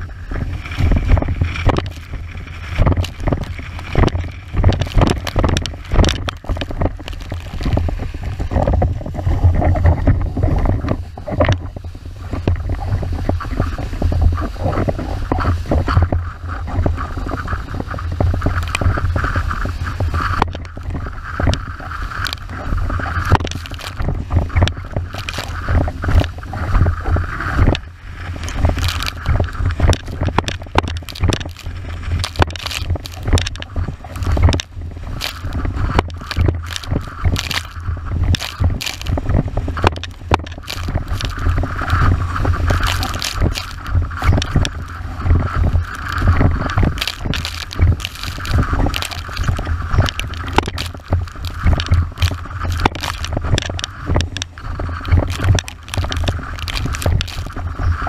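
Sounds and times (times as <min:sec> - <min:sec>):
hull slapping waves: 0:00.0 - 0:58.0
wind on microphone: 0:00.0 - 0:58.0.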